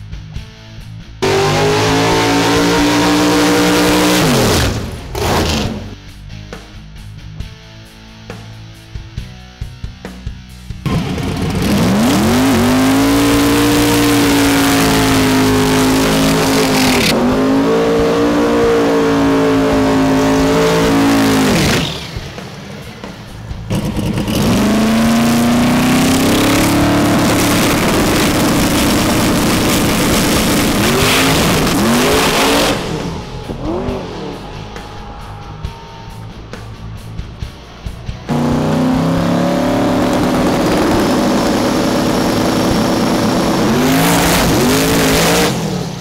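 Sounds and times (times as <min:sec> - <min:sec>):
car engine revving hard: 0:01.2 - 0:06.0, 0:10.9 - 0:22.5, 0:23.6 - 0:46.0.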